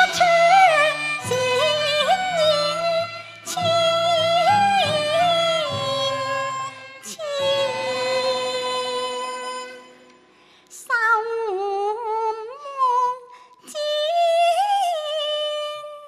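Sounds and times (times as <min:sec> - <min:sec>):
opera singing voice: 0:00.0 - 0:10.0, 0:10.7 - 0:16.0.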